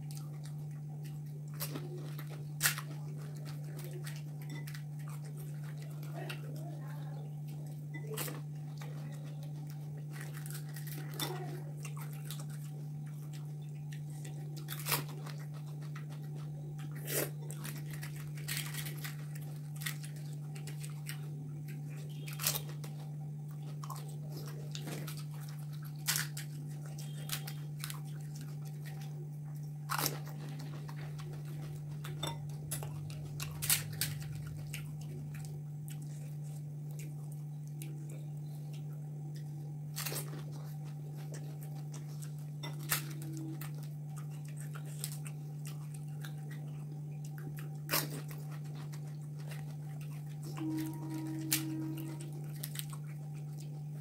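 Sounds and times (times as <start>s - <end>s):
crisp shells crunching and chewing: 0.0s - 54.0s
steady low hum: 0.0s - 54.0s.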